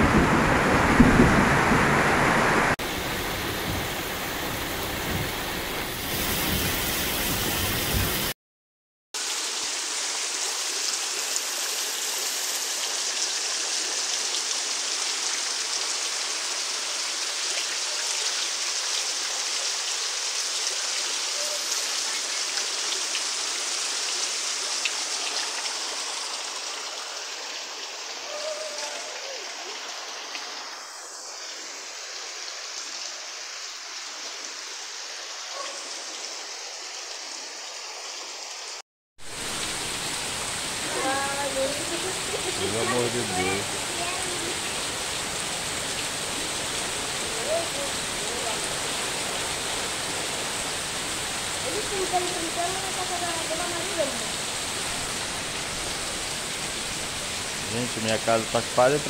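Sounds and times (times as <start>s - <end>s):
heavy rain on standing water: 0.0s - 8.4s, 9.2s - 59.0s.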